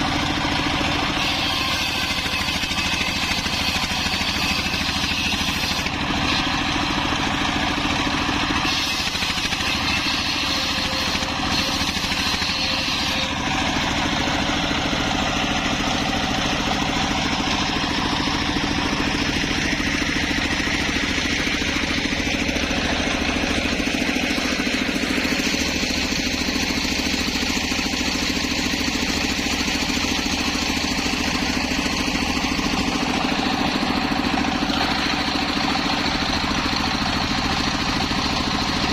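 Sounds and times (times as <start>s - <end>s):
engine drone: 0.0s - 38.9s
saw blade whine: 0.0s - 38.9s.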